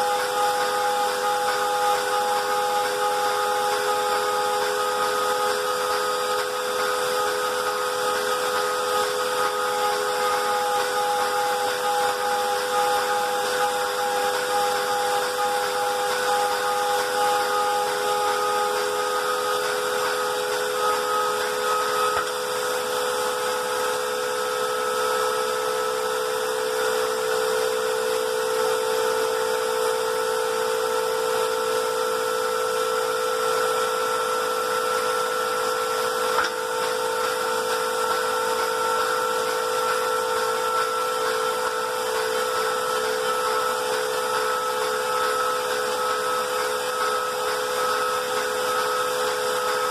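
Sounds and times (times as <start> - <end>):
grinder spindle whine: 0.0 - 49.9.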